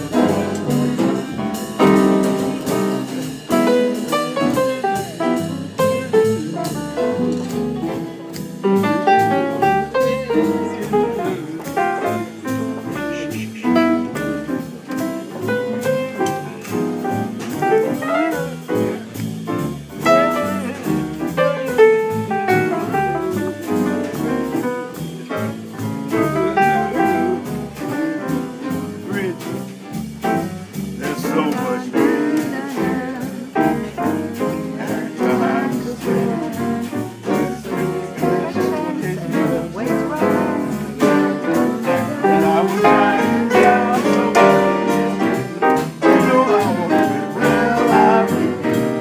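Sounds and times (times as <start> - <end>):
solo jazz piano: 0.0 - 49.0.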